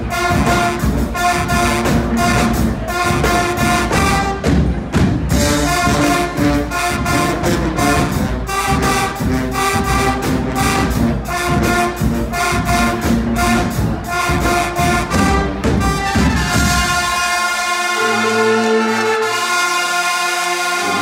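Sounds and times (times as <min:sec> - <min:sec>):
steady drum beat: 0:00.0 - 0:17.6
brass band playing: 0:00.0 - 0:21.0.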